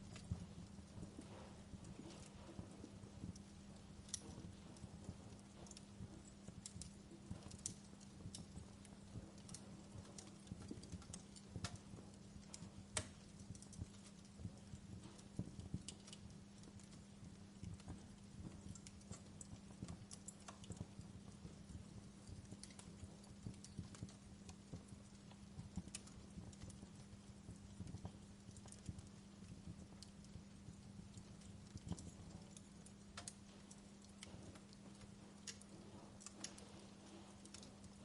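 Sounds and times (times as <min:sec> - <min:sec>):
steady low hum: 0:00.0 - 0:38.0
wood fire crackling: 0:00.0 - 0:38.0.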